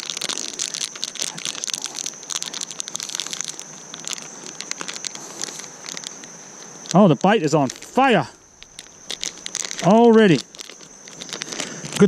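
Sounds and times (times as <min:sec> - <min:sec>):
crinkling handling noise: 0:00.0 - 0:12.0
steady high-pitched tone: 0:00.0 - 0:12.0.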